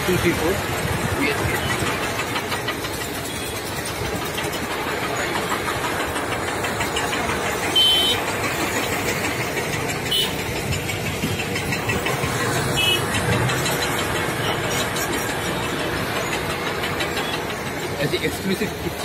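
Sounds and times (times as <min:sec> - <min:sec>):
heavy machinery engines running: 0:00.0 - 0:19.0.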